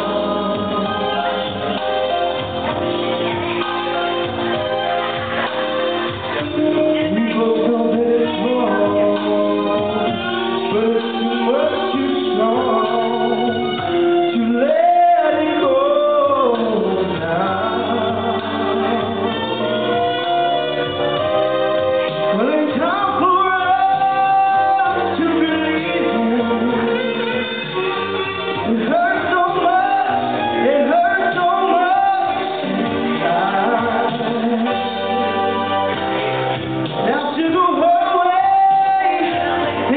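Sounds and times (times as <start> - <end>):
man singing karaoke: 0.0 - 21.3, 22.0 - 39.9
backing track music: 0.0 - 39.9.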